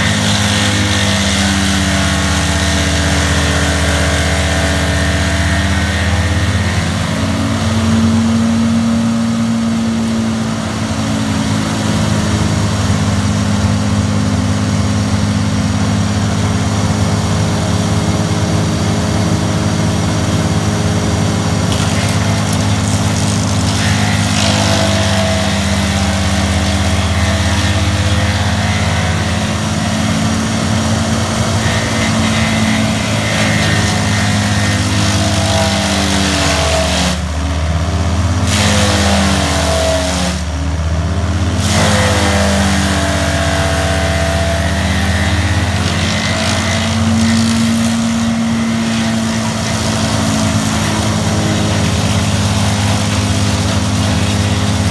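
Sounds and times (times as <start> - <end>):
brush chipper engine running: 0.0 - 54.9.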